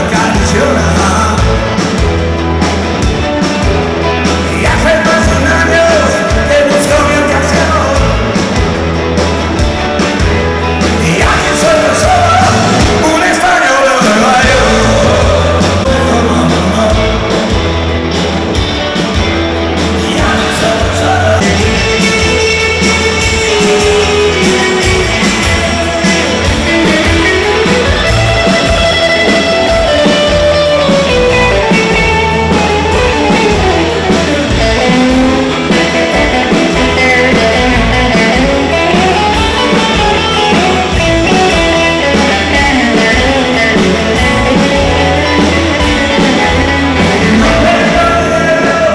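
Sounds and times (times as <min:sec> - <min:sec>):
person singing: 0:00.0 - 0:01.8, 0:04.1 - 0:08.6, 0:10.8 - 0:17.7, 0:19.9 - 0:48.9
electric guitar: 0:00.0 - 0:48.9.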